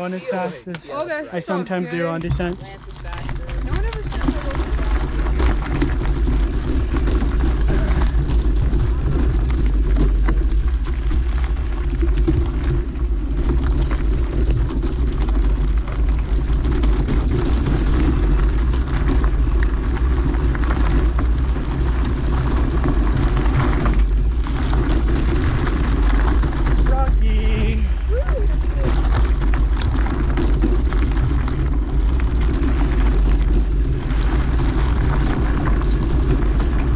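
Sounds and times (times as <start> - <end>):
bike tyres on dirt trail: 0.0 - 1.2, 1.8 - 36.9
bike clicks and rattles: 2.2 - 36.9
wind rumbling on microphone: 2.2 - 36.9.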